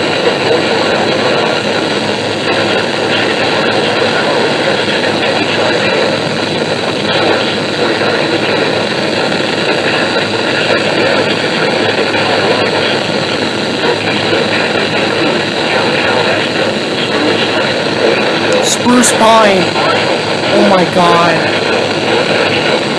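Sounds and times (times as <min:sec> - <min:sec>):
radio static hiss: 0:00.0 - 0:22.9.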